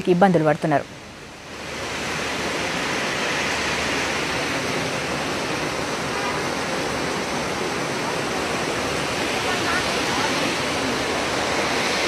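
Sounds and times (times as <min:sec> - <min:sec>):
heavy rain on road: 0:01.4 - 0:12.0.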